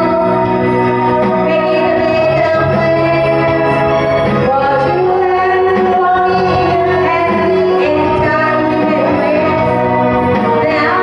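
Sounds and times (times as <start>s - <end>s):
backing track music: 0.0s - 11.0s
woman singing into microphone: 0.0s - 11.0s.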